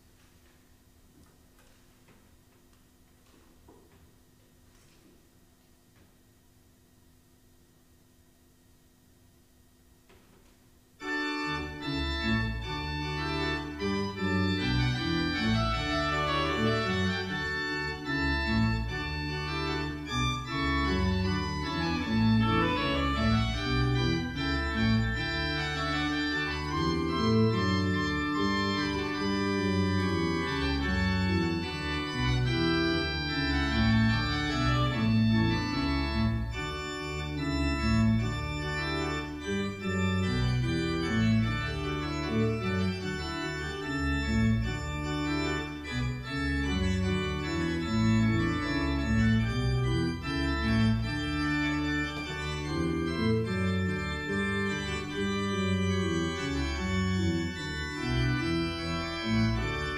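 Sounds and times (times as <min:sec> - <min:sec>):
pipe organ playing chords: 0:11.0 - 0:59.9.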